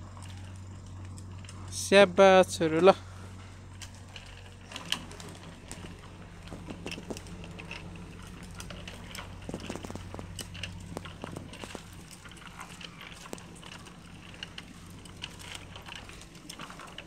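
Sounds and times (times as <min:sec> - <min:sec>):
bicycle rolling over brick paving: 0:00.0 - 0:17.0.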